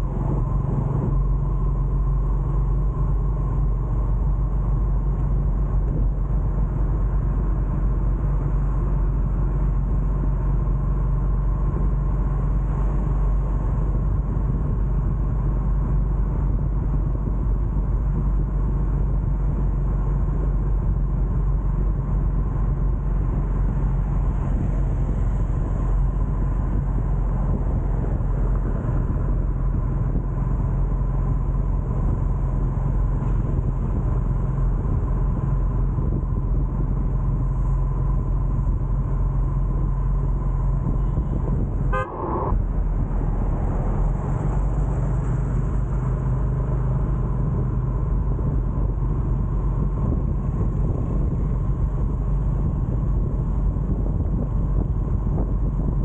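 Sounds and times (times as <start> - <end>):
engine hum: 0.0 - 56.0
road noise: 0.0 - 56.0.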